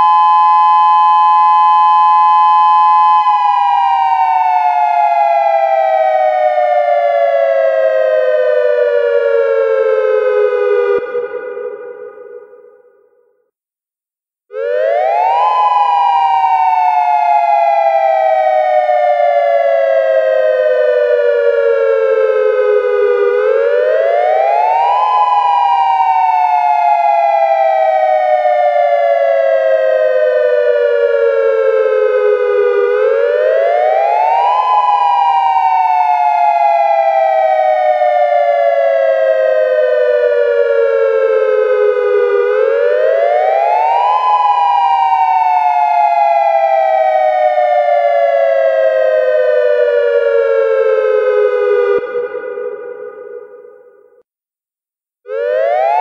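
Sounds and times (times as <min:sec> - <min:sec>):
warning siren wailing: 0:00.0 - 0:13.0, 0:14.5 - 0:54.2, 0:55.3 - 0:56.0.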